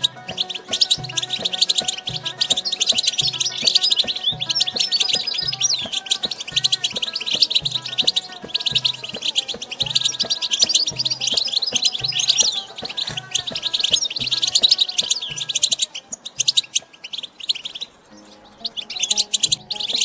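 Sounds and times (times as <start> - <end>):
background music: 0.0 - 20.0
goldfinch twittering: 0.0 - 20.0.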